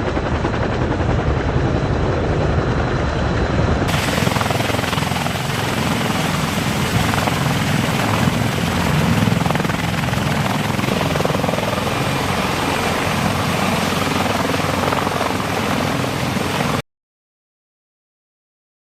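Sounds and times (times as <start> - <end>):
helicopter engines rushing: 0.0 - 16.8
helicopter rotor beat: 0.0 - 16.8.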